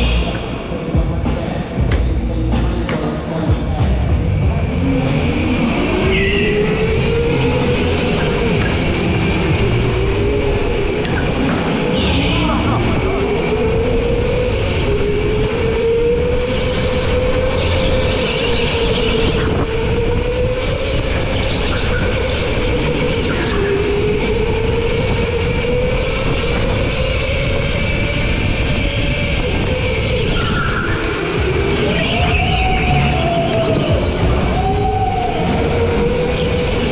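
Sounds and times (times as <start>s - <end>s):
wind rushing on microphone: 2.7s - 36.9s
go-kart motor whining: 4.7s - 36.9s.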